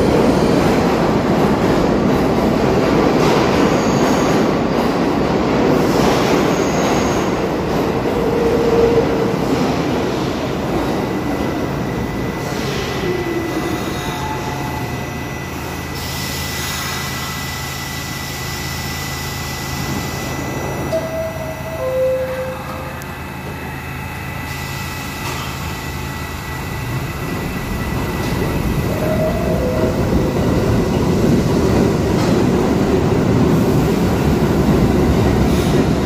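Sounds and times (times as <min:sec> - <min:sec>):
subway train braking: 0:00.0 - 0:36.0
train hum and whine: 0:00.0 - 0:36.0.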